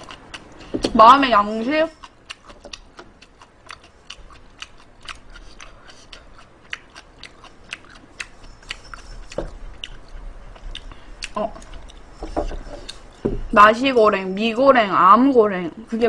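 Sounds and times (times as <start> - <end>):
wet chewing clicks: 0.0 - 13.6.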